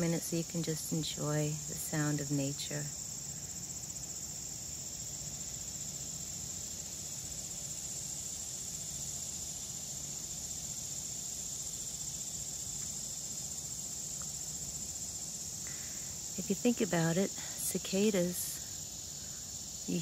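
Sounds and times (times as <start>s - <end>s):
distant cicadas buzzing: 0.0s - 20.0s.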